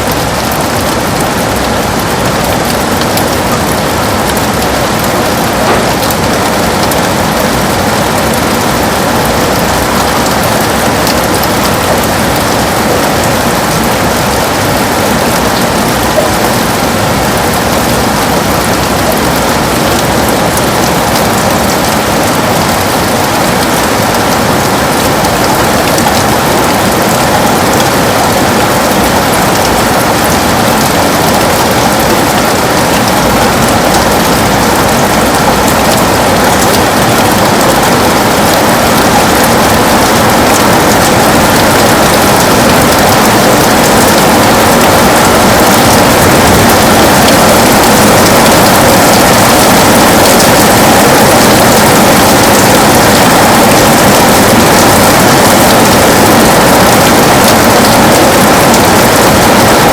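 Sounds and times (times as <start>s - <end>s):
heavy rain on window glass: 0.0s - 59.9s.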